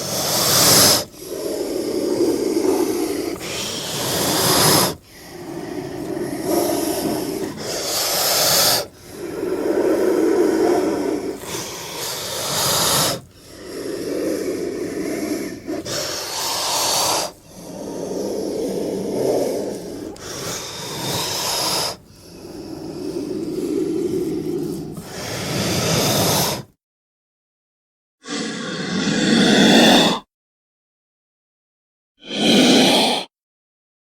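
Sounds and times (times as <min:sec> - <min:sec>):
snake hissing: 0:00.0 - 0:26.7, 0:28.3 - 0:30.3, 0:32.2 - 0:33.3.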